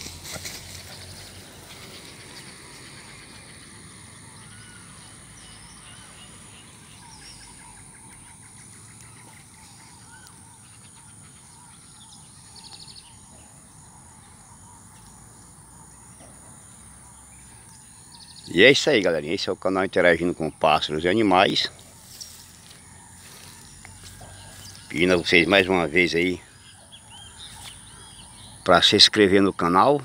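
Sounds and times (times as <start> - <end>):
birds chirping: 0.0 - 30.0
bird trill: 0.8 - 29.9.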